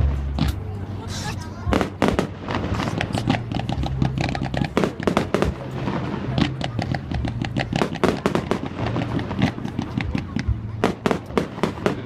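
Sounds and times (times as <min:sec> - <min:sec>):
fireworks banging and crackling: 0:00.0 - 0:12.0.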